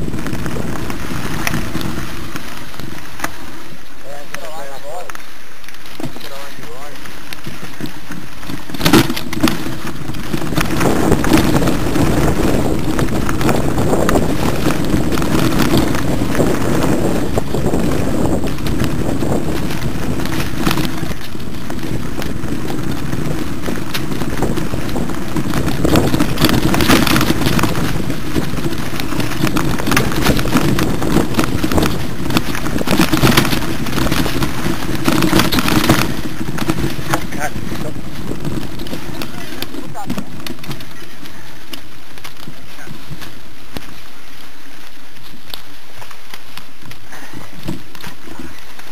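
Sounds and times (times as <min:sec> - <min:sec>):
tyres rattling on stones: 0:00.0 - 0:48.9
wind buffeting microphone: 0:00.0 - 0:48.9.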